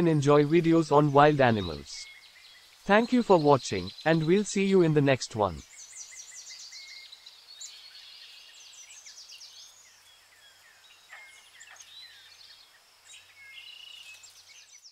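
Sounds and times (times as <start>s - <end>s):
birds chirping and trilling: 0.0s - 14.9s.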